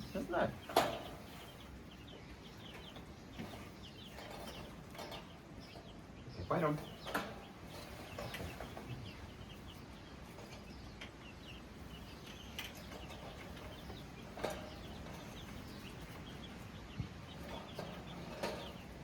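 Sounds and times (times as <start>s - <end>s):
baby chicks cheeping: 0.0s - 19.0s.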